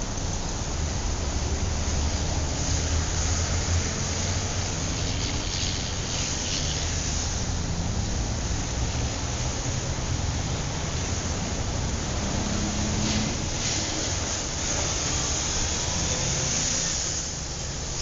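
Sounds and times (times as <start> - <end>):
road and tyre noise: 0.0 - 18.0
vehicle engines rumbling: 0.0 - 18.0.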